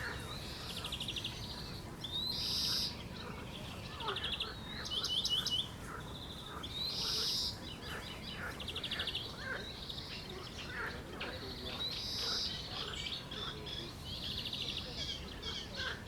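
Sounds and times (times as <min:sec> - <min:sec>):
faint bird calls: 0:00.0 - 0:16.0
songbird singing: 0:00.0 - 0:16.0.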